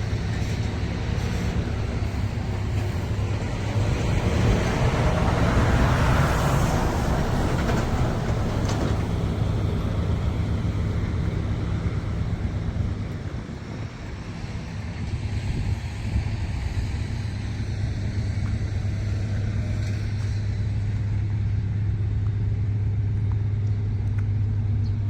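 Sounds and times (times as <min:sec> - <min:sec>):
combine harvester engine humming: 0:00.0 - 0:25.0.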